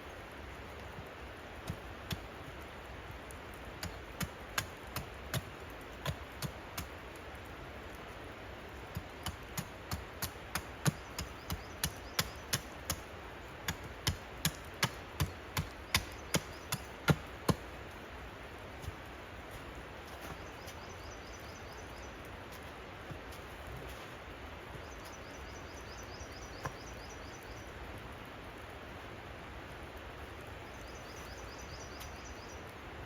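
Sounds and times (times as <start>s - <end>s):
steady low hiss: 0.0s - 33.0s.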